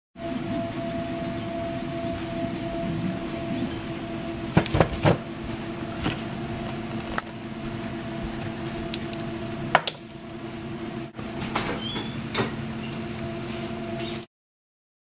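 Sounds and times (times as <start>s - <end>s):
steady hum with held tones: 0.2s - 14.3s.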